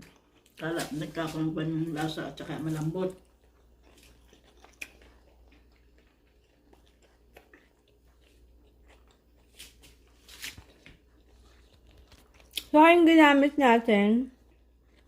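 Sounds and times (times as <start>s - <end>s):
chewing crunchy food: 0.0s - 12.8s, 14.3s - 15.0s
low steady hum: 0.0s - 15.0s.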